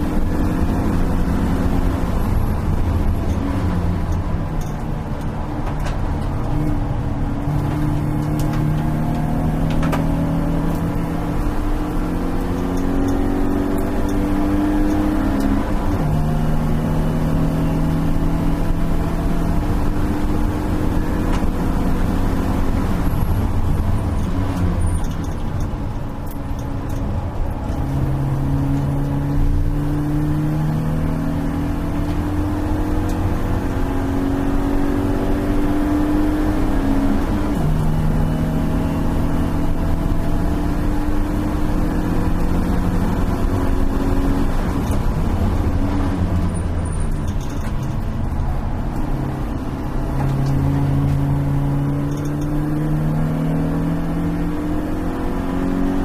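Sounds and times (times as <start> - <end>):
race car engine revving: 0.0 - 25.5, 27.6 - 56.0
road and wind noise: 0.0 - 56.0.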